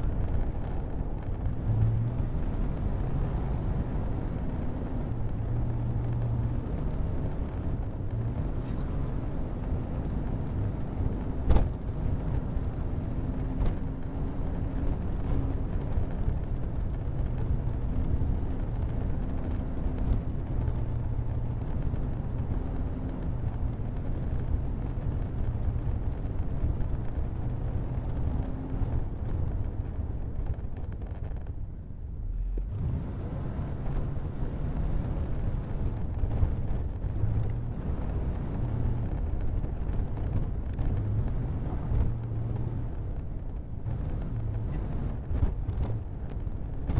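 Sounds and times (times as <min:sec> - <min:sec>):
motor vehicle engine running: 0:00.0 - 0:46.9.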